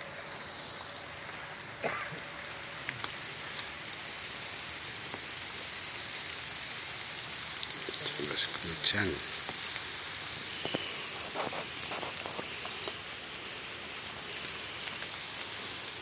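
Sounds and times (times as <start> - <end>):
rain falling on river: 0.0 - 16.0.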